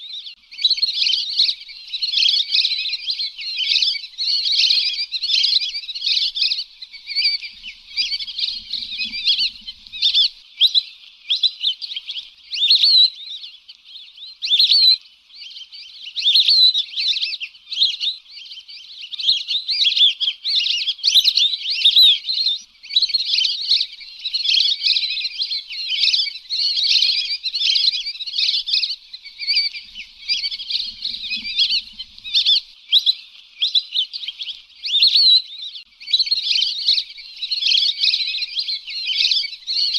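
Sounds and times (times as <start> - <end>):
ducks whistling and chattering: 0.0 - 39.9.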